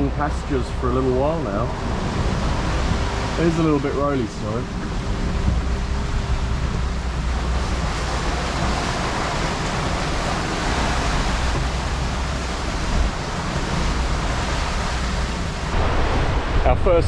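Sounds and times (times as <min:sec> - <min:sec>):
low rumble: 0:00.0 - 0:17.0
sea water rushing along a yacht: 0:00.0 - 0:17.0
wind rushing: 0:01.2 - 0:17.0.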